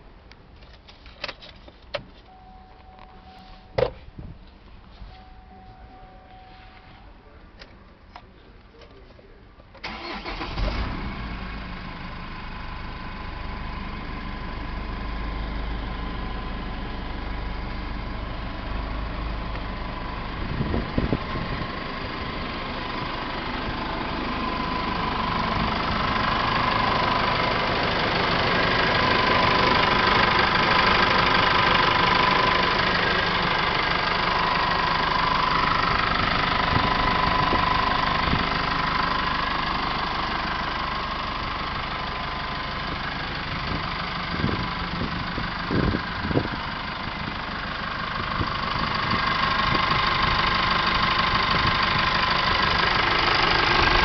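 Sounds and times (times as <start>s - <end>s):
diesel engine idling: 2.2s - 54.0s.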